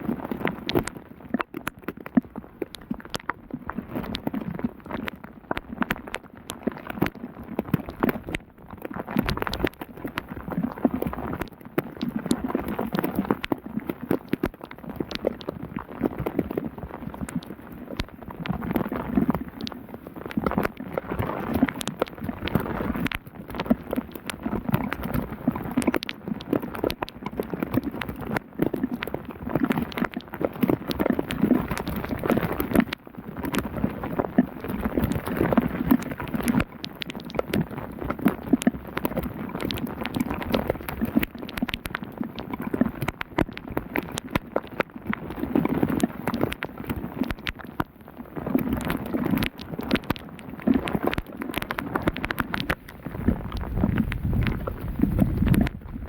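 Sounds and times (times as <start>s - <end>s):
heavy rain pattering: 0.0s - 56.0s
sharp raindrop clicks: 0.0s - 56.0s.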